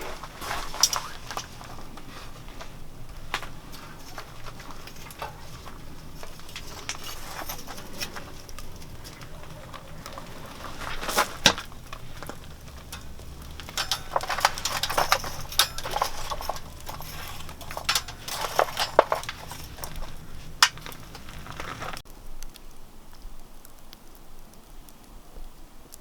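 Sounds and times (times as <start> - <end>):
cookware clinking and knocking: 0.0 - 21.9
faint low hum: 0.0 - 22.0.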